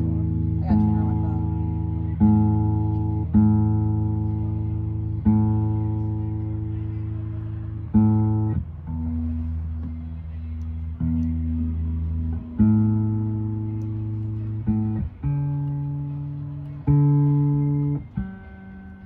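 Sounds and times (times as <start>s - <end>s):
guitar notes plucked: 0.0s - 19.0s.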